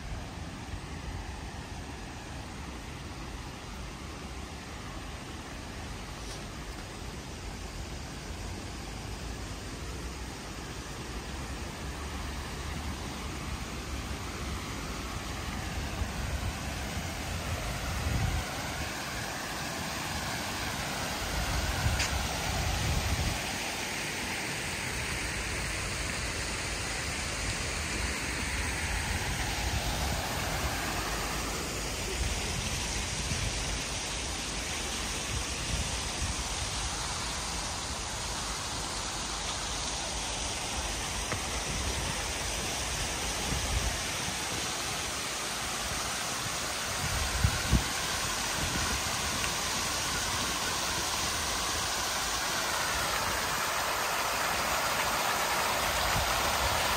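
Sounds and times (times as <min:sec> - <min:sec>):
fountain water splashing: 0:00.0 - 0:56.9.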